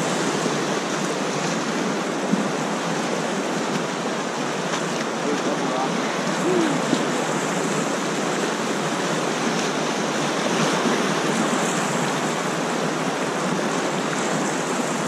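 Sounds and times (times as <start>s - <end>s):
whitewater rapid rushing: 0.0s - 15.0s.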